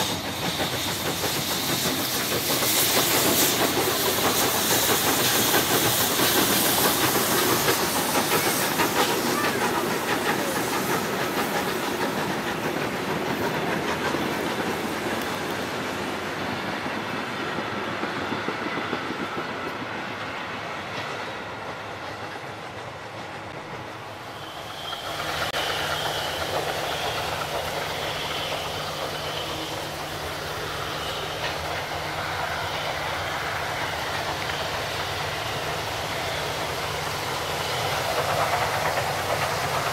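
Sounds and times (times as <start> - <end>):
steam hissing: 0.0 - 39.9
train wheels clicking on rails: 0.0 - 39.9.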